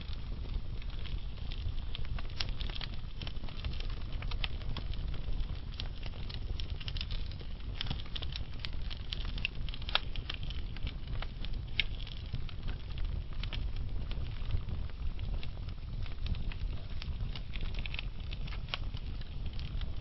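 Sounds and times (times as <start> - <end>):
fire crackling and popping: 0.0 - 20.0
low rumble of flame: 0.0 - 20.0.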